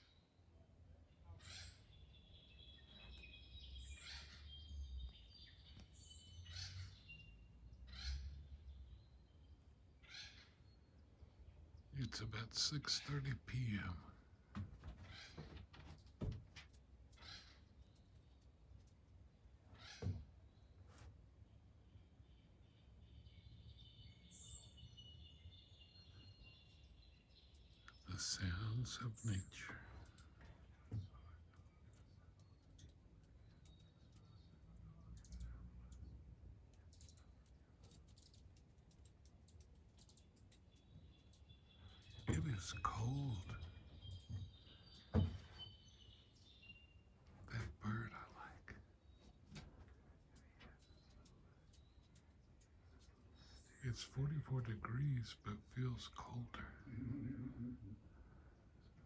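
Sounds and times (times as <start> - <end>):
faint distant birdsong: 0.0 - 59.0.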